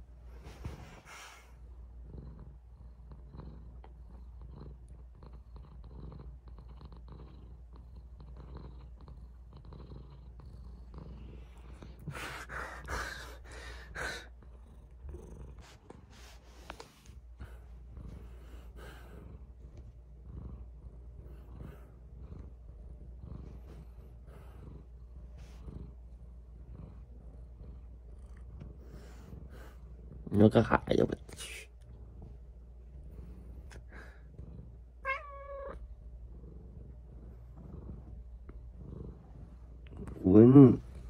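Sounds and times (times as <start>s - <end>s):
cat purring: 0.0s - 41.0s.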